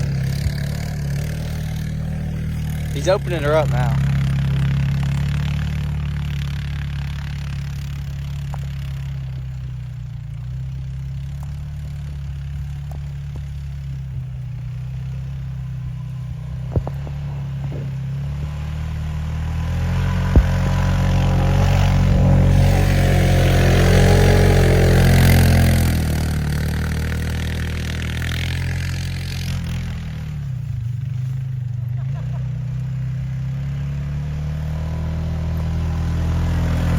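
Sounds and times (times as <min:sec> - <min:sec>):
vehicle engine revving: 0:00.0 - 0:36.9.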